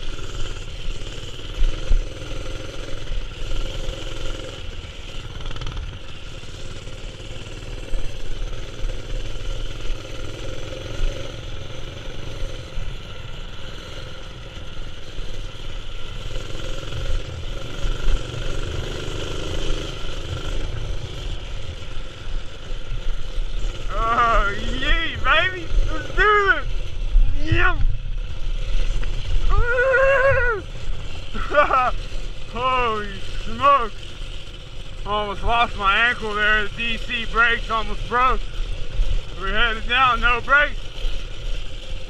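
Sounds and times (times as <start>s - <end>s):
wind: 0.0s - 42.0s.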